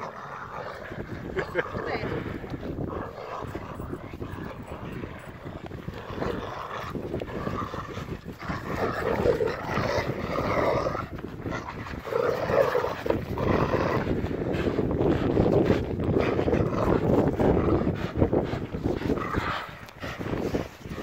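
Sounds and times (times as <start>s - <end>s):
dogs growling: 0.0s - 21.0s.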